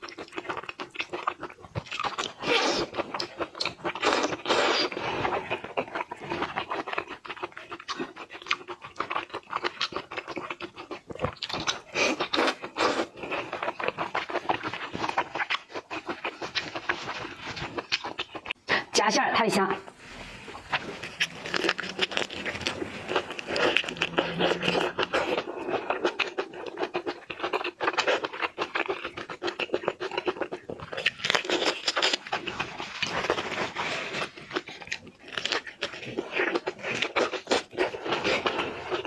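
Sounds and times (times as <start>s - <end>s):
wet chewing and lip-smacking: 0.0s - 18.8s, 20.5s - 39.0s.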